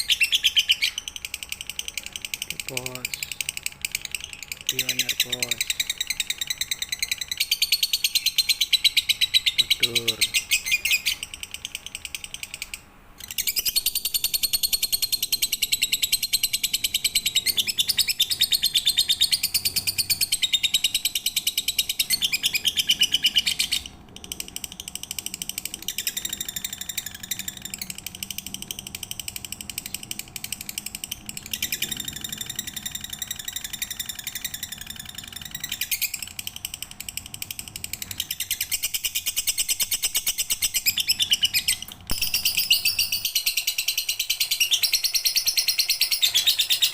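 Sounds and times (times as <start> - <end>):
lovebird chattering trills: 0.0 - 46.9.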